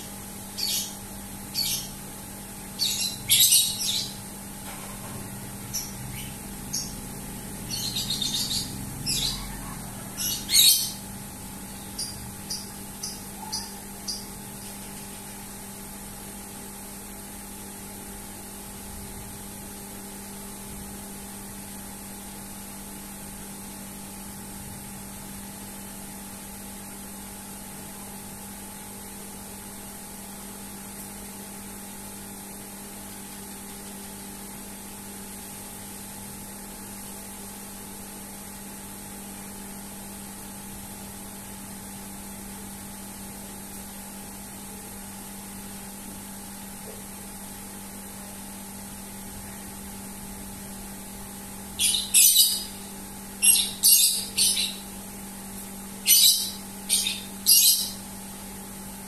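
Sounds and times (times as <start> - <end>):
electrical hum with hiss: 0.0 - 59.0.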